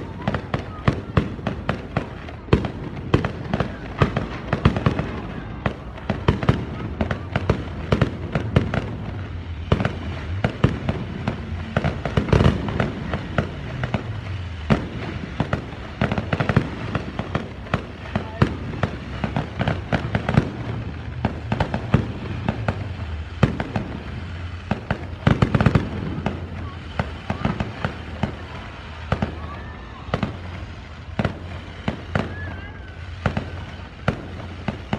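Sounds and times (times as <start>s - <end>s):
fireworks bangs and crackles: 0.0s - 34.9s
heavy firework bangs: 0.0s - 34.9s.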